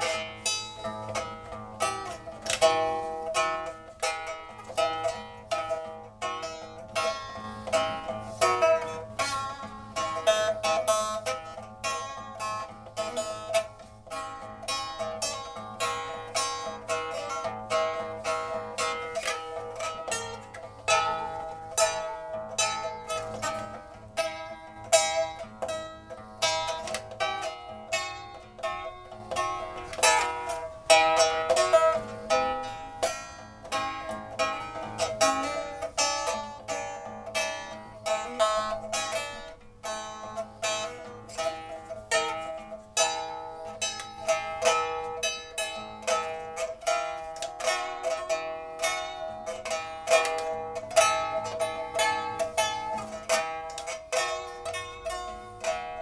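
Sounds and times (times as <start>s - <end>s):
plucked zither music: 0.0s - 56.0s.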